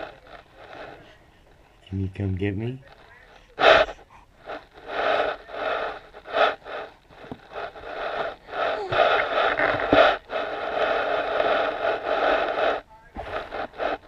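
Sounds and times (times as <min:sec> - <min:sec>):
baby breathing hard: 0:00.0 - 0:01.9, 0:02.9 - 0:14.0.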